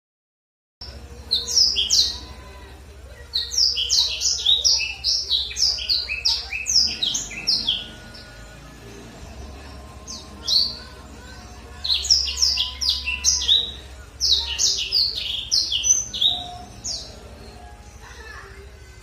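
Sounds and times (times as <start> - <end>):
canary singing: 0.8 - 19.0.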